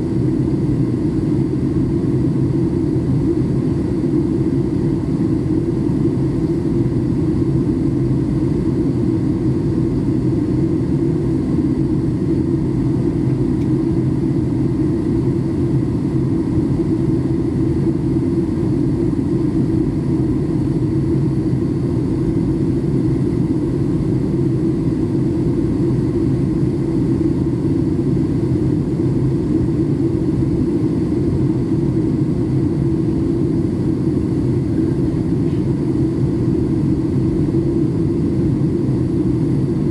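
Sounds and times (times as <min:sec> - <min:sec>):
airplane cabin engine rumble: 0:00.0 - 0:39.9
faint steady whines: 0:00.0 - 0:39.9.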